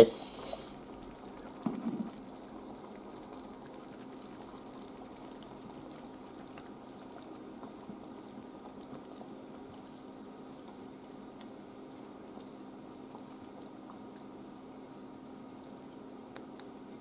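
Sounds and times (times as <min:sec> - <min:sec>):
steady low hum: 0:00.0 - 0:17.0
sauce bubbling and popping: 0:00.5 - 0:17.0.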